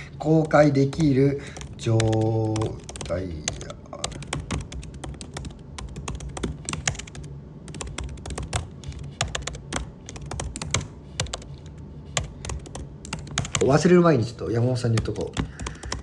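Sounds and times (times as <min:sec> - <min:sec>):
fast typing on a keyboard: 0:00.2 - 0:14.0, 0:14.8 - 0:16.0.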